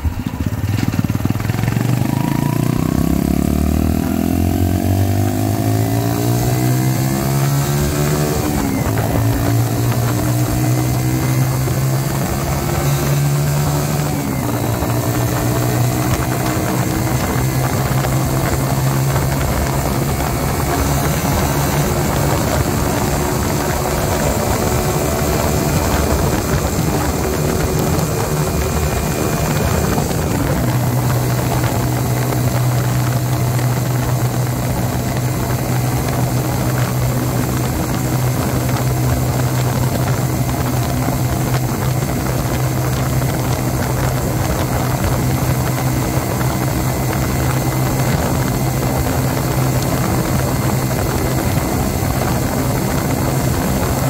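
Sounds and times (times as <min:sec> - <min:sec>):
motorcycle engine running: 0:00.0 - 0:54.0
road noise: 0:00.0 - 0:54.0
wind noise: 0:00.0 - 0:54.0.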